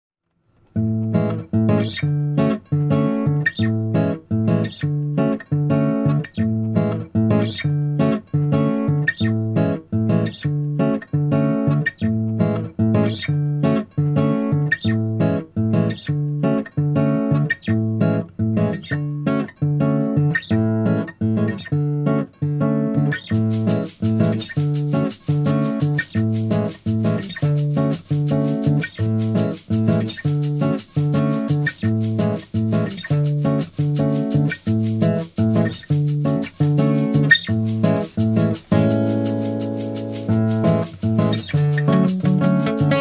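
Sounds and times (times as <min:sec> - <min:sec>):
acoustic guitar strumming: 0:00.6 - 0:43.0.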